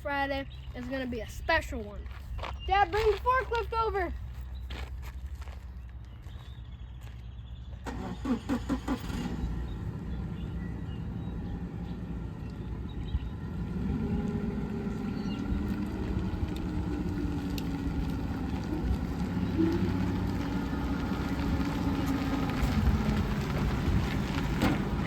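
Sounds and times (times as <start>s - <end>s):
forklift engine running: 2.8s - 25.0s.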